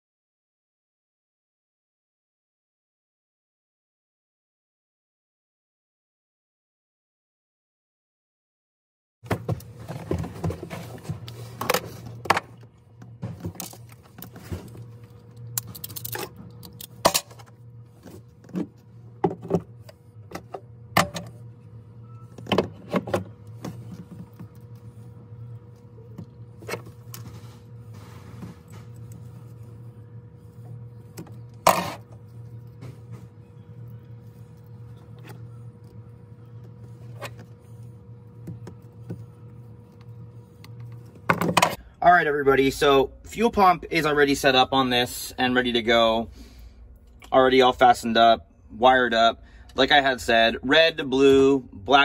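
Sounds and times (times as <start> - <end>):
steady low hum: 9.2 - 52.0.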